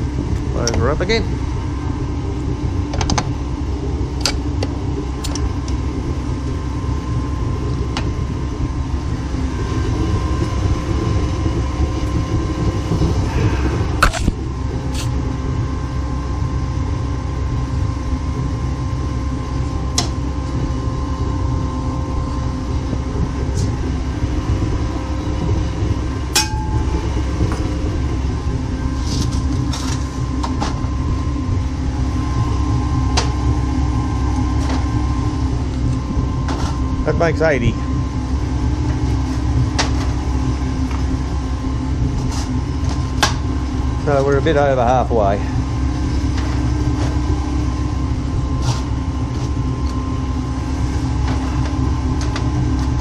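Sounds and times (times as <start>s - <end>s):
gas burners roaring: 0.0s - 53.0s.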